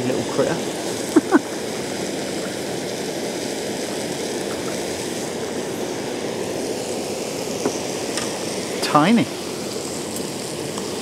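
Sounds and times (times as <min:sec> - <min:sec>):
water rushing around boat: 0:00.0 - 0:11.0
wind: 0:00.0 - 0:11.0.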